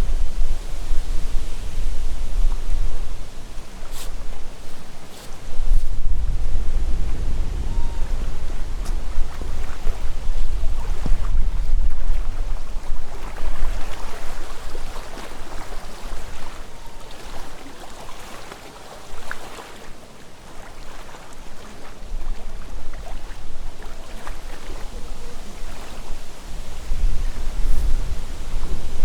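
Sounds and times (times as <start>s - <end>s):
wind buffeting microphone: 0.0s - 17.6s, 21.9s - 29.0s
gusty wind through trees: 0.0s - 18.3s, 20.3s - 29.0s
rustling leaves: 0.0s - 29.0s.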